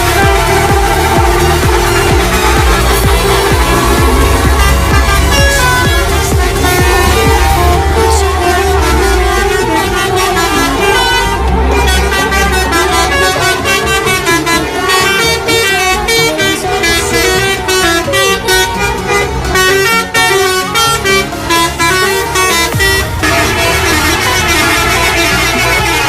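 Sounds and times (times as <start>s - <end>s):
bus horns playing quick tunes: 0.0s - 26.0s.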